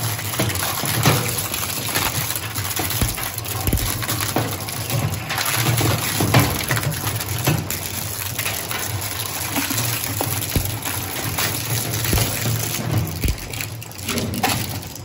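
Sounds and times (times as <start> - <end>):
plastic crunching and cracking: 0.0 - 15.0.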